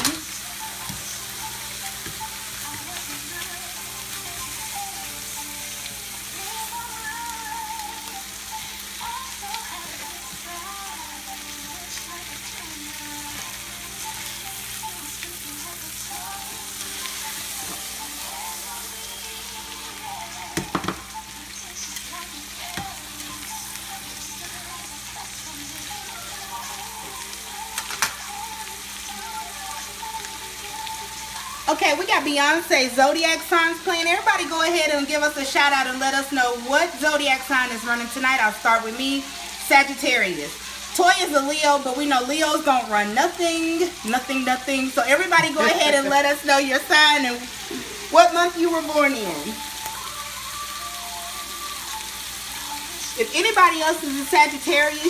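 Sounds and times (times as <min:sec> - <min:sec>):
steaks sizzling in butter: 0:00.0 - 0:55.0.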